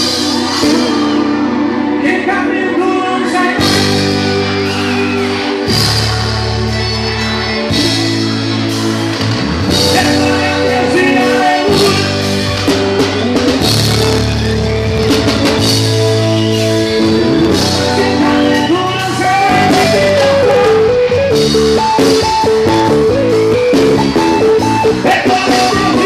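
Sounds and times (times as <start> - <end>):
worship band playing with singing: 0.0 - 26.0
electric bass long notes: 3.6 - 26.0.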